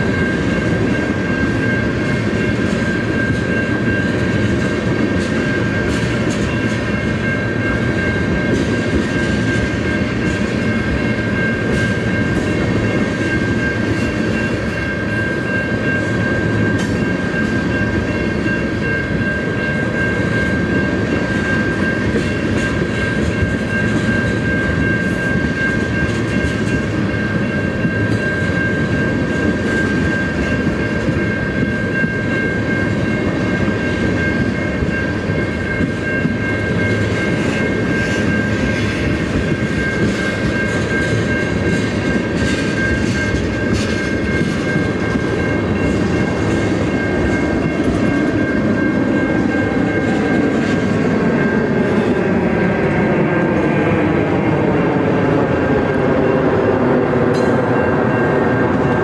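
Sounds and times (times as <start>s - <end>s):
constant high-pitched tone: 0.0s - 59.0s
train wheels rumbling on rail: 0.0s - 59.0s.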